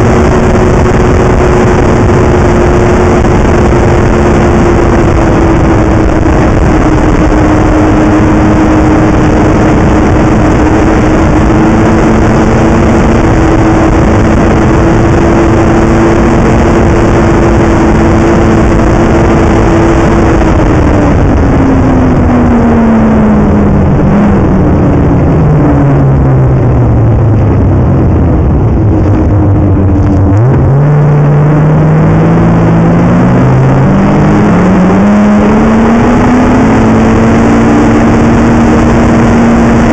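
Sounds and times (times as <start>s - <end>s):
constant rushing noise: 0.0s - 39.9s
snowmobile engine running: 0.0s - 39.9s.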